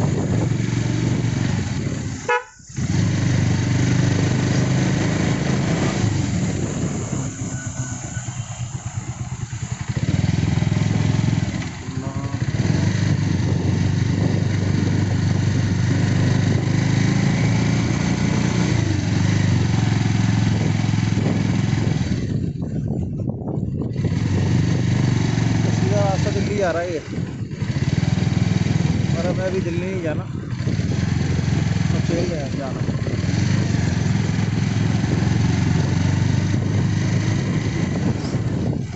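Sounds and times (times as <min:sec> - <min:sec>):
constant rushing noise: 0:00.0 - 0:38.9
motorcycle engine running: 0:00.0 - 0:38.9.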